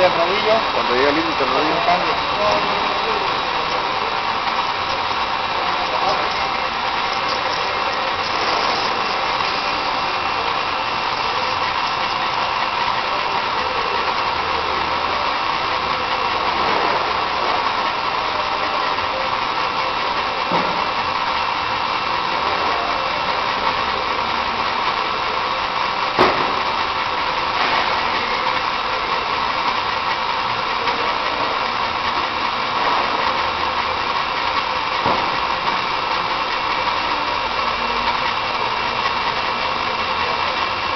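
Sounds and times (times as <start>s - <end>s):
machine humming: 0.0s - 40.9s.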